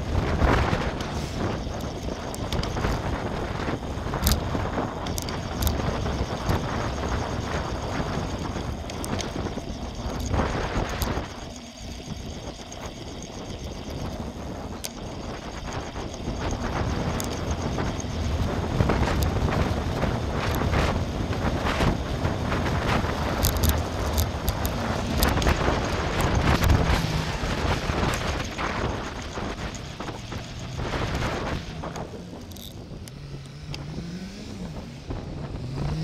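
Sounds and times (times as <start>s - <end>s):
bike clicks and rattles: 0.0s - 33.9s
tyres rumbling on tarmac: 0.0s - 36.0s
wind buffeting microphone: 0.0s - 36.0s.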